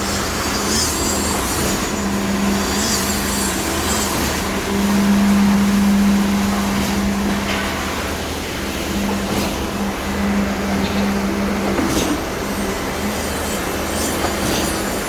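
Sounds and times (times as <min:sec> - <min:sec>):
concrete pump truck humming: 0:00.0 - 0:15.0.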